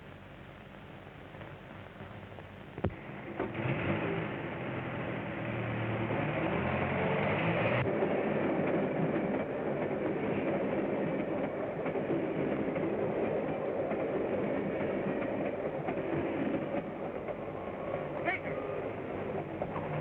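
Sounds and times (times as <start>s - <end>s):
train wheels clattering on rails: 2.9s - 20.0s.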